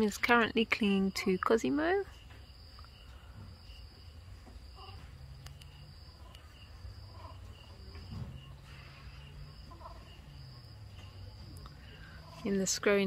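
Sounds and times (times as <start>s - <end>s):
insect chirps: 0.0s - 13.0s
insect trill: 0.0s - 13.0s.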